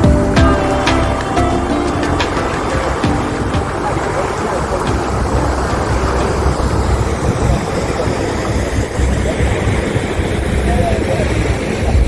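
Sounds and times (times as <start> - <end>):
boat engine and water rumble: 0.0 - 12.0.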